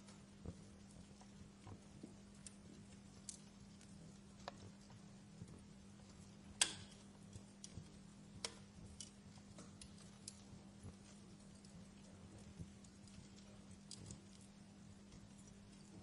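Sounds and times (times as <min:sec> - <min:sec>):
faint steady hum: 0:00.0 - 0:16.0
wood fire crackling: 0:00.0 - 0:16.0.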